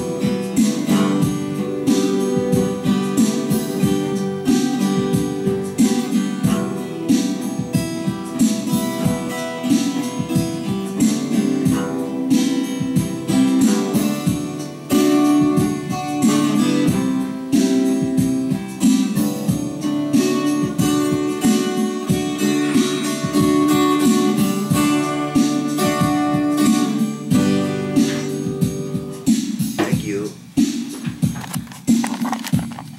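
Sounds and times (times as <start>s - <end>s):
acoustic guitar strumming: 0.0s - 32.9s.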